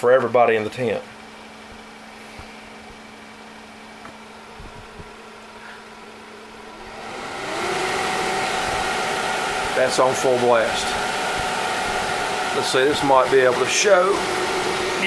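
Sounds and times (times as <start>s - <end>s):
blower fan humming: 0.0s - 15.0s
fan whine and air rush: 0.0s - 15.0s.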